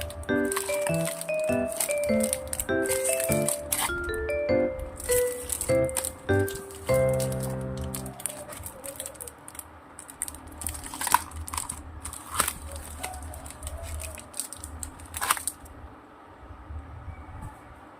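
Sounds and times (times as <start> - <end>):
paper rustling and crinkling: 0.0 - 4.4, 5.0 - 15.6.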